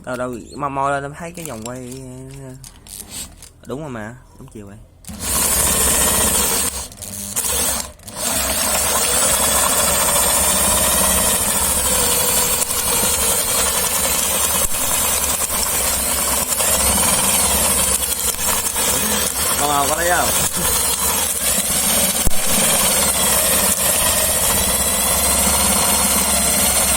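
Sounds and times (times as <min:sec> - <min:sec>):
electric drill running: 0:05.1 - 0:26.9
meat grinder grinding crabs: 0:05.1 - 0:26.9.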